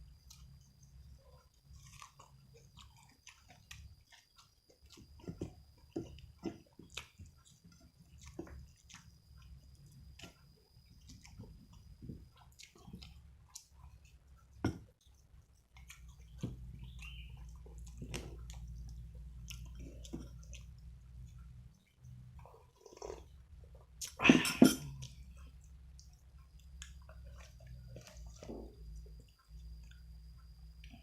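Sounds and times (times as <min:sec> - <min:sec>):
person chewing food: 0:00.0 - 0:31.0
food crunching and snapping: 0:01.3 - 0:24.2, 0:24.9 - 0:31.0.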